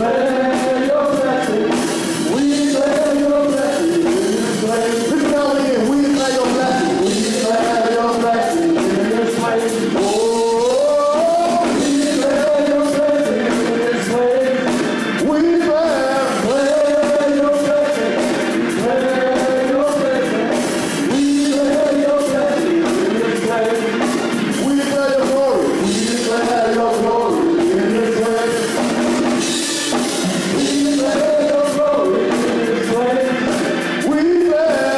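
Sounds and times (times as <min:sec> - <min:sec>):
band playing: 0:00.0 - 0:34.9
drums and cymbals beat: 0:00.0 - 0:34.9
voices singing worship music: 0:00.0 - 0:34.9.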